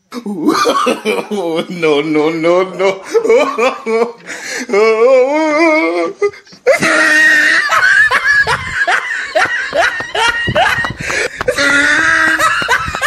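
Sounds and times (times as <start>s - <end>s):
people laughing loudly: 0.5s - 4.5s, 6.2s - 13.0s.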